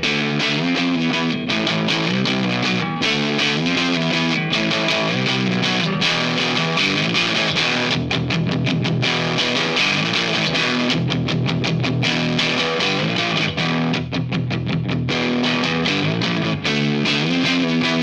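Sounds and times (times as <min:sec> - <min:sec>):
fuzz electric guitar riffs: 0:00.0 - 0:18.0.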